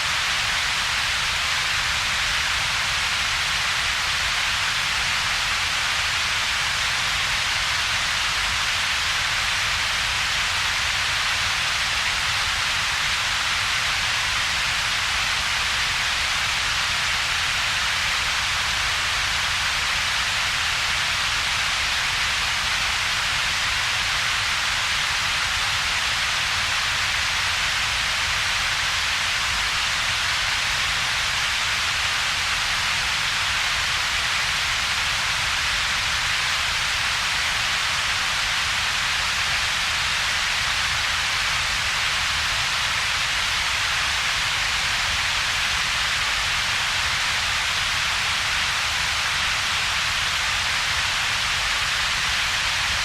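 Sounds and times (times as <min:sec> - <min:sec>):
steady synthetic hiss: 0:00.0 - 0:53.0.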